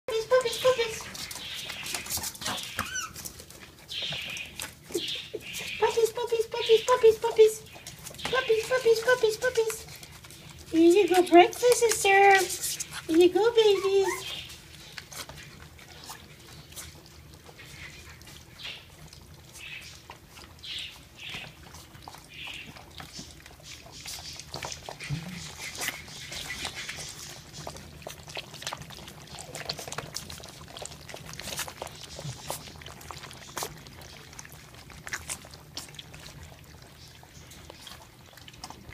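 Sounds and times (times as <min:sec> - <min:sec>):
puppies lapping food: 0:00.1 - 0:38.9.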